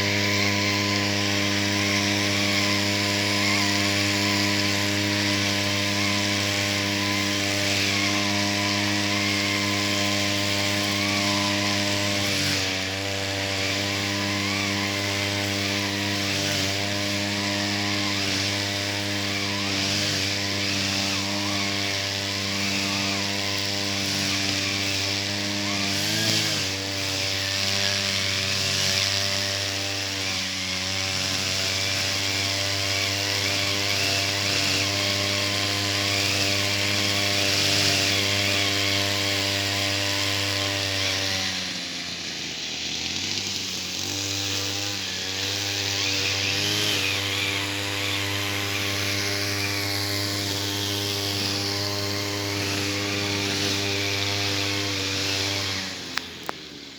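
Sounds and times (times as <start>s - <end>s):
brush cutter engine running: 0.0s - 56.9s.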